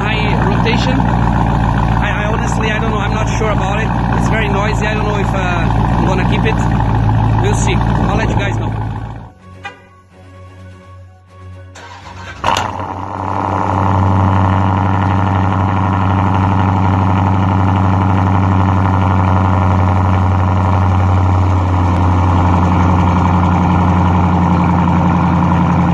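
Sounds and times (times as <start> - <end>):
car engine starting and revving: 0.0 - 9.8, 11.5 - 25.9
car engine idling: 0.0 - 10.8, 11.5 - 25.9.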